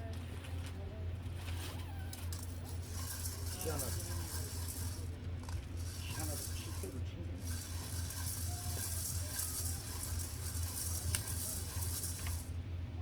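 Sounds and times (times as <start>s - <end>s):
constant low hum: 0.0s - 13.0s
coffee beans rattling in roaster: 1.4s - 12.6s.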